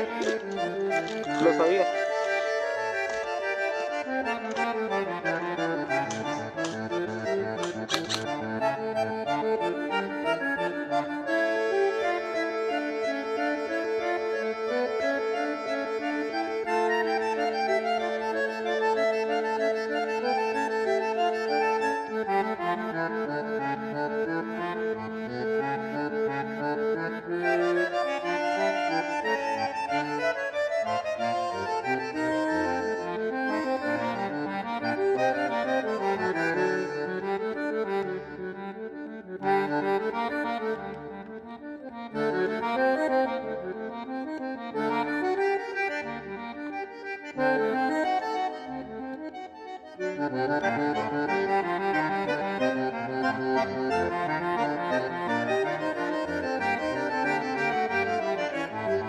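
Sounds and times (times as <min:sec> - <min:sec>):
accordion music: 0:00.0 - 0:59.0.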